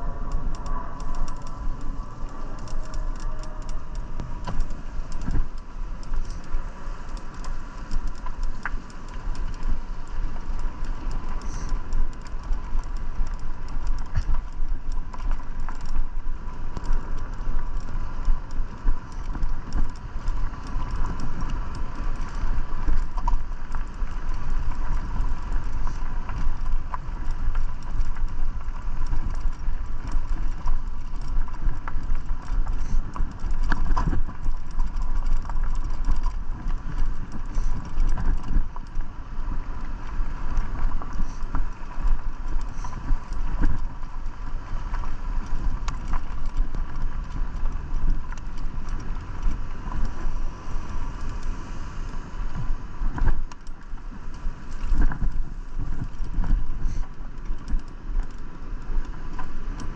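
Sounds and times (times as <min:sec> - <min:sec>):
bike rattling: 0:00.0 - 0:59.9
wind rumble on microphone: 0:00.0 - 0:59.9.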